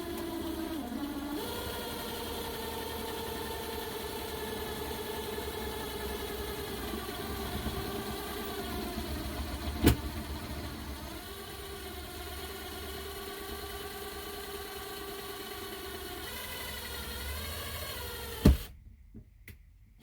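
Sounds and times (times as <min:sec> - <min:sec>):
power drill drilling into tile: 0:00.0 - 0:18.7.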